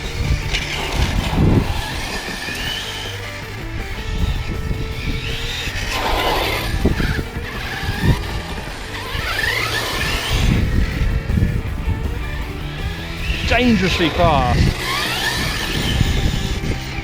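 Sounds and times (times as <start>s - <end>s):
electric motor whining: 0.0s - 17.0s
tyre and drivetrain noise: 0.0s - 17.0s.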